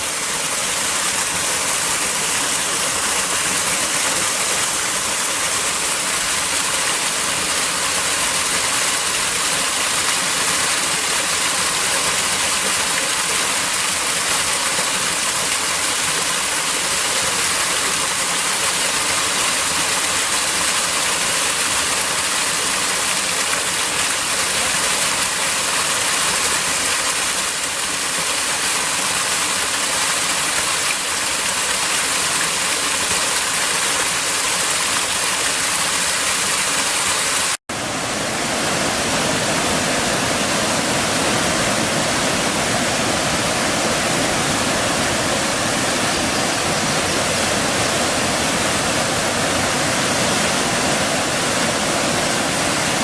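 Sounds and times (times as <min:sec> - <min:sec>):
waterfall and rushing stream: 0:00.0 - 0:53.0.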